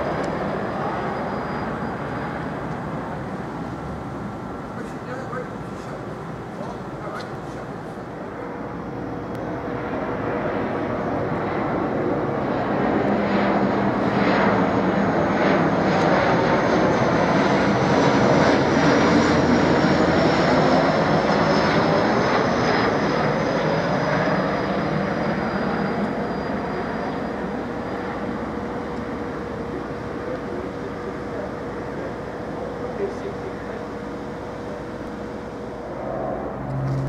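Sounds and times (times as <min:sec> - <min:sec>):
high engine whine: 0:00.0 - 0:37.0
turboprop airliner passing overhead: 0:00.0 - 0:37.0.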